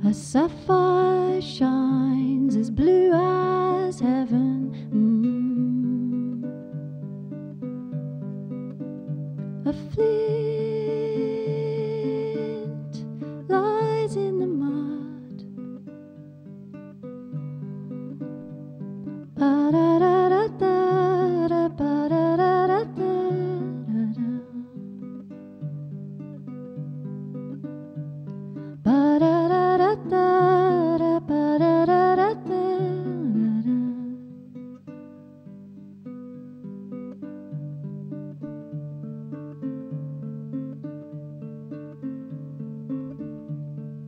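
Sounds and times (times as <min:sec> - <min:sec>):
ukulele picking: 0:00.0 - 0:44.0.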